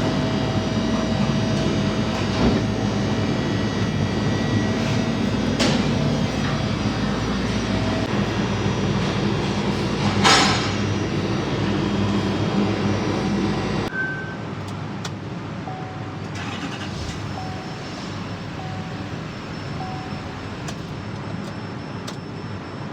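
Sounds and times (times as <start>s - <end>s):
diesel engine running: 0.0s - 13.9s, 16.4s - 21.9s.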